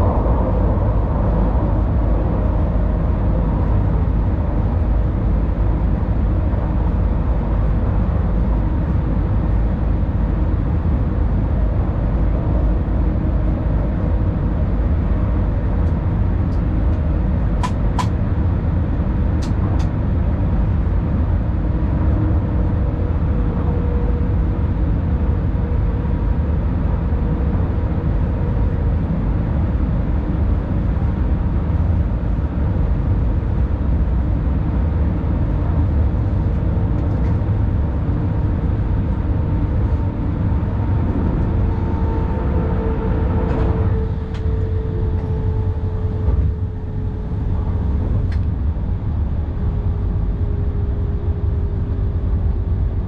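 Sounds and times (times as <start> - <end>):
electric train rumbling in tunnel: 0.0 - 53.0.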